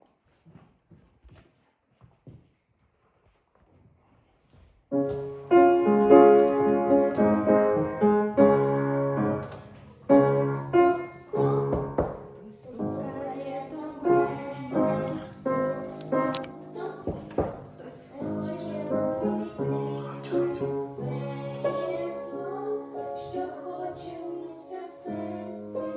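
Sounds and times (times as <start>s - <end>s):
piano music: 4.9s - 25.9s.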